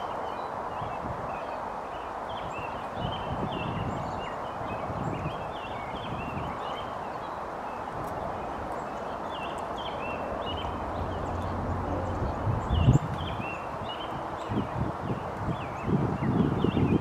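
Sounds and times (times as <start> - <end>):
small songbirds chirping: 0.0 - 17.0
steady rushing noise: 0.0 - 17.0.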